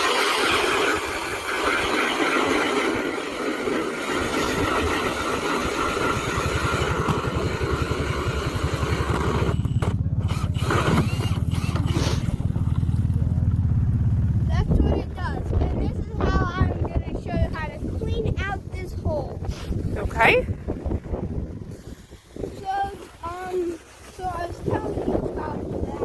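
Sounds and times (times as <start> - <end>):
ice auger motor grinding: 0.0 - 26.0
low rapid pulsing: 0.0 - 26.0.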